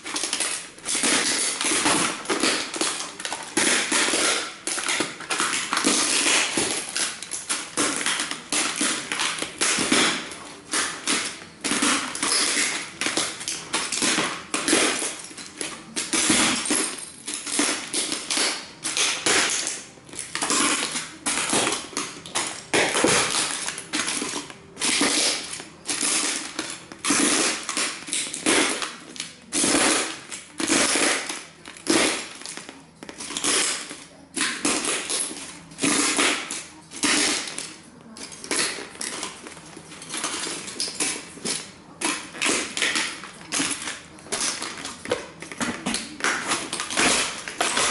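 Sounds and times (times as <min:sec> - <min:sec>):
boots crunching broken pieces: 0:00.0 - 0:47.9.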